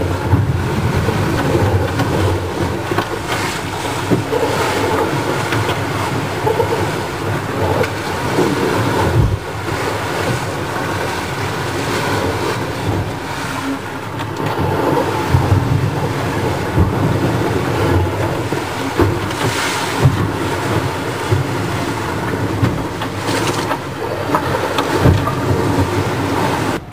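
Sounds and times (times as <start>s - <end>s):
wind and water rushing against hull: 0.0s - 26.9s.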